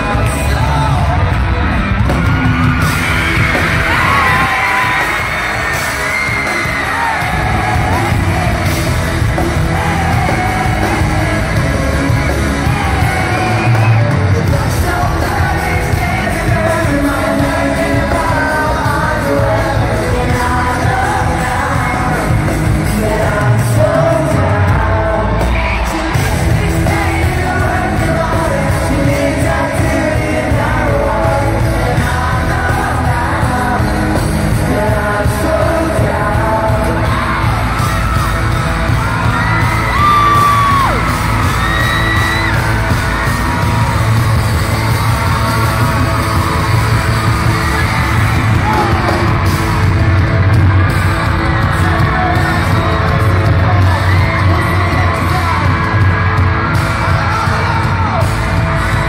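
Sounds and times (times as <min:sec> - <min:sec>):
fans yelling: 0:00.0 - 0:59.0
lead vocal singing: 0:00.0 - 0:59.0
live pop-rock band playing: 0:00.0 - 0:59.0.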